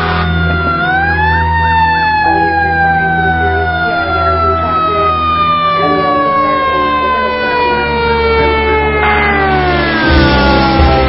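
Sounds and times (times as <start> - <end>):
siren winding down: 0.0 - 11.0
truck engine rumble: 0.0 - 11.0.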